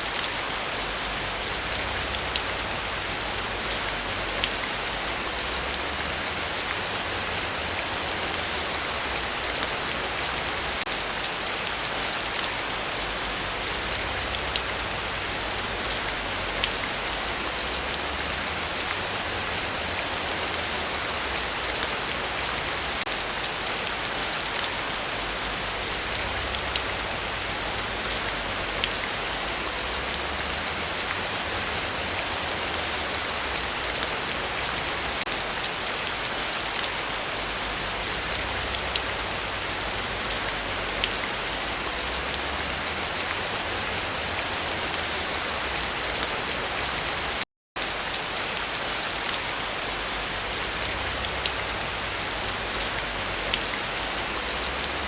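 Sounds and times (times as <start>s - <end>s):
heavy rain on forest: 0.0s - 55.0s.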